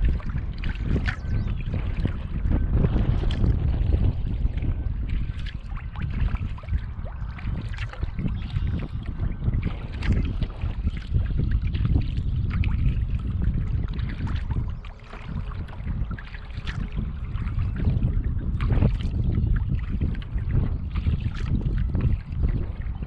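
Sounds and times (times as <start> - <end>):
paddle water splashing: 0.0 - 23.0
wind buffeting microphone: 0.0 - 23.0.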